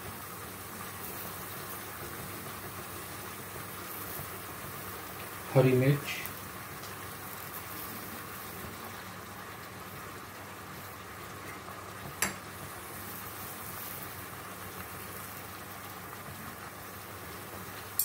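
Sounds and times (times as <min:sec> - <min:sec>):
food hissing in a pan: 0:00.0 - 0:18.0.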